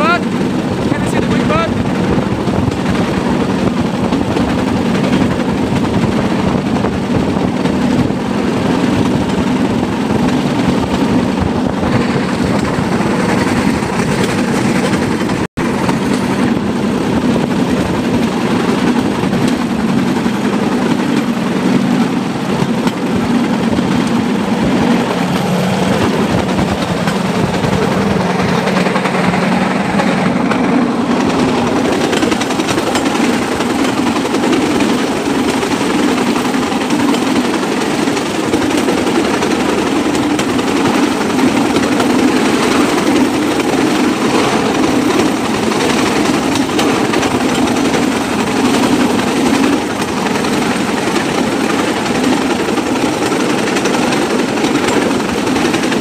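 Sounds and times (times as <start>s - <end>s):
wheels clattering on track: 0.0s - 56.0s.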